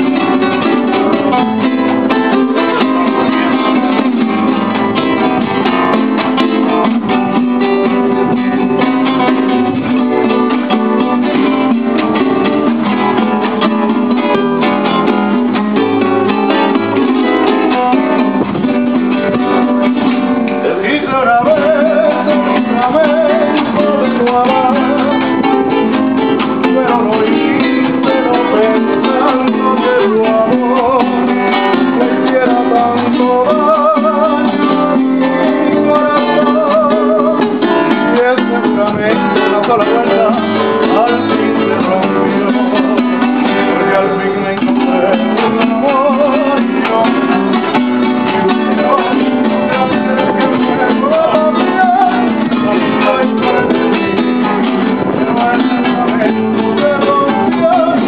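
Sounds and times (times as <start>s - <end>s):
guitars strumming: 0.0s - 58.0s.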